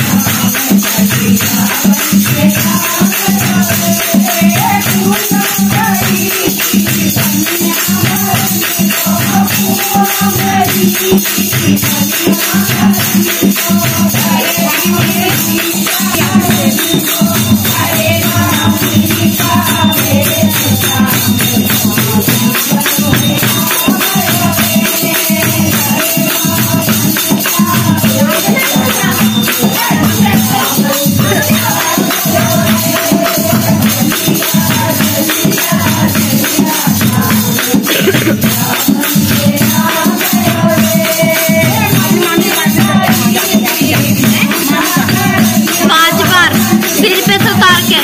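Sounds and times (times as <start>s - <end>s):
jingling rattling percussion: 0.0s - 48.0s
women singing devotional song: 0.0s - 48.0s.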